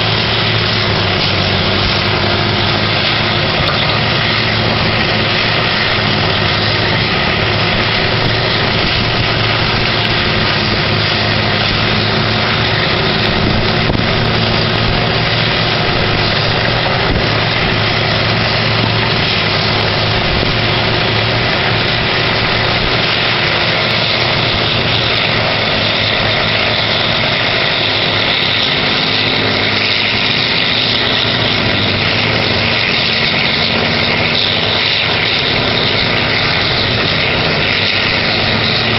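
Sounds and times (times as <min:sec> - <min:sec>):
wood grinder and excavator engines: 0:00.0 - 0:38.9.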